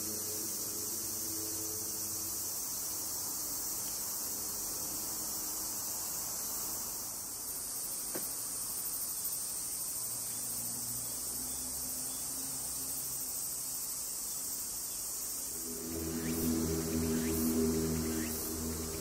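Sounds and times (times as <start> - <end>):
cicadas droning: 0.0 - 19.0
pulsing cicada song: 0.0 - 19.0.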